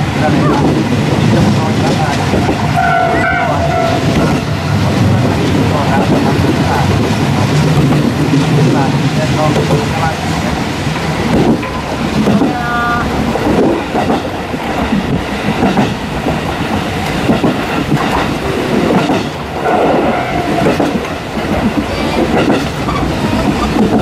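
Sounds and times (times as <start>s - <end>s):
train wheels rumbling: 0.0s - 24.0s
wheels clacking over rail joints: 0.0s - 24.0s.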